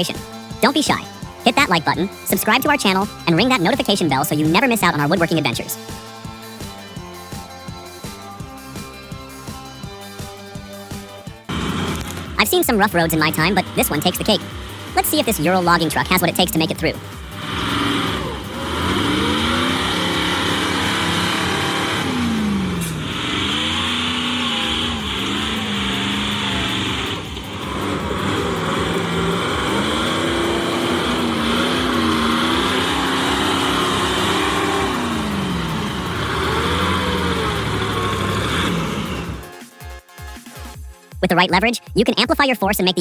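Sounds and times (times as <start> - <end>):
truck engine revving: 0.0 - 39.7.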